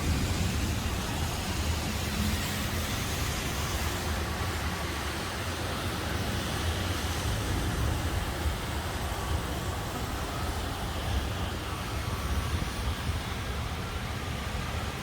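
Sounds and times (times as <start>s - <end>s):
heavy rain hiss: 0.0s - 15.0s
strong wind: 0.0s - 15.0s.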